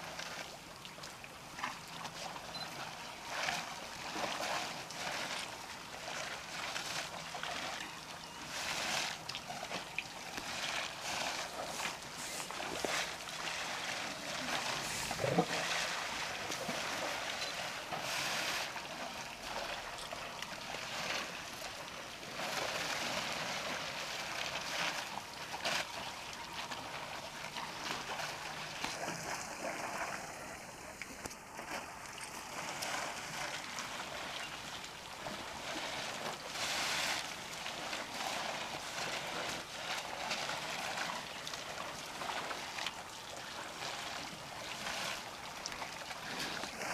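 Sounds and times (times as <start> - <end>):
water splashing and sloshing: 0.0 - 46.9.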